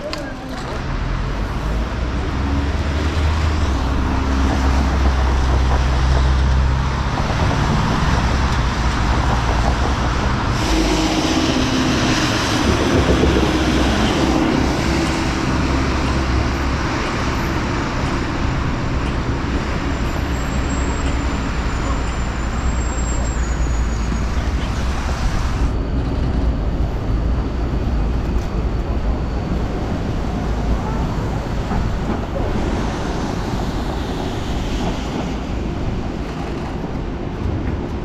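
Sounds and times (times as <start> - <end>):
large vehicle engine running: 0.0 - 34.0
passing vehicles: 0.0 - 38.0.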